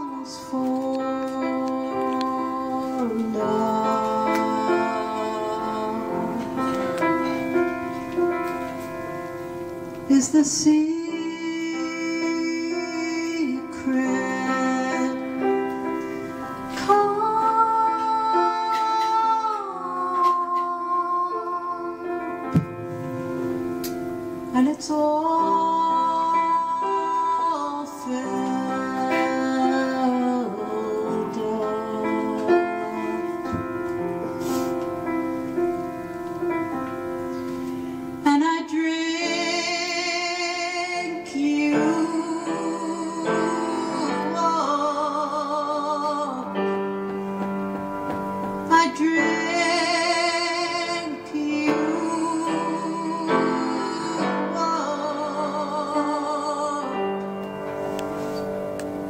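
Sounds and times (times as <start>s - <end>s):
woman singing with vibrato: 0.0s - 7.5s, 10.0s - 15.8s, 16.6s - 23.6s, 24.3s - 34.2s, 38.2s - 47.5s, 48.2s - 58.6s
piano accompaniment: 0.0s - 59.0s.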